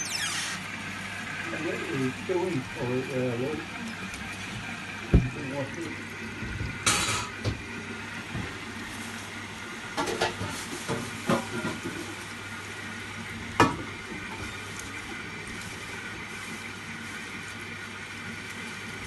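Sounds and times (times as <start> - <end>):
washing machine water filling: 0.0 - 19.0.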